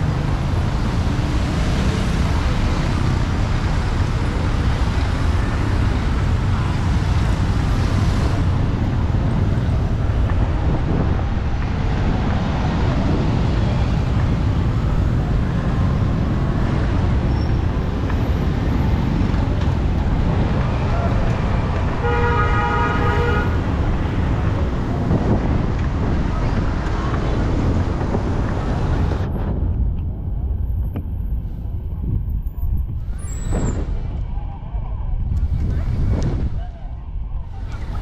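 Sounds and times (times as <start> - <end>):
city street traffic: 0.0 - 38.0.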